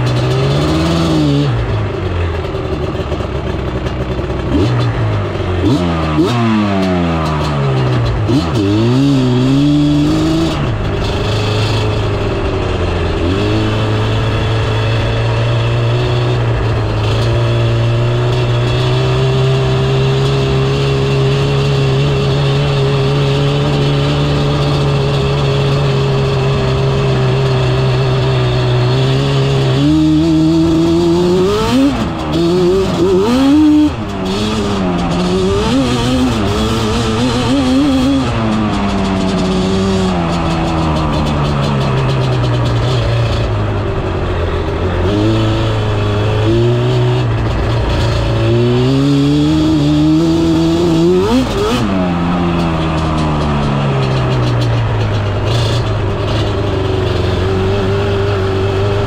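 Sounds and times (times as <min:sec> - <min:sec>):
quad engine revving: 0:00.0 - 0:59.0.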